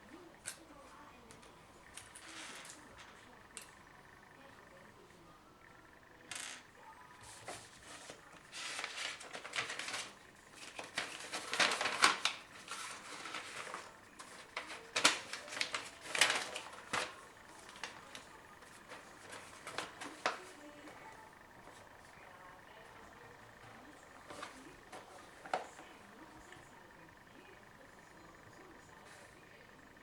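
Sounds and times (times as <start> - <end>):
rustling of parts: 0.3 - 4.7, 5.7 - 27.8.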